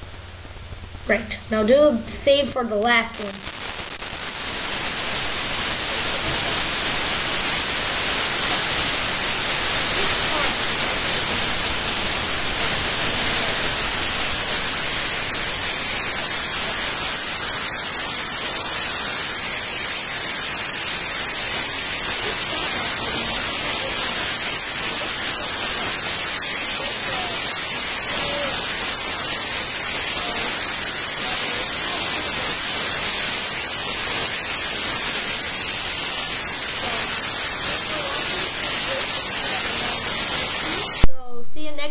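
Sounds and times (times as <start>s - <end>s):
microphone hiss: 0.0s - 41.9s.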